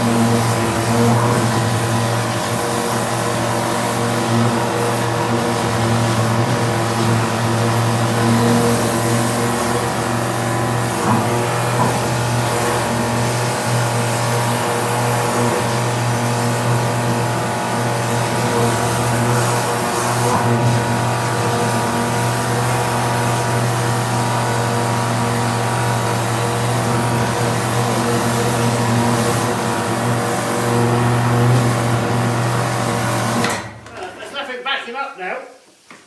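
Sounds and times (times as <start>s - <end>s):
pressure washer machine drone: 0.0s - 34.1s.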